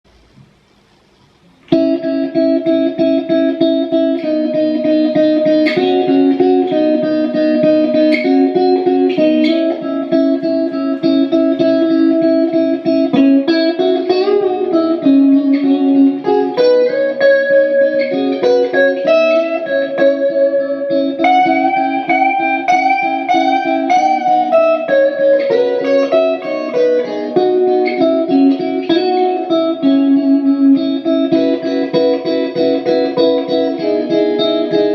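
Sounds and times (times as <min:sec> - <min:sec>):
electric guitar playing: 0:01.1 - 0:34.9.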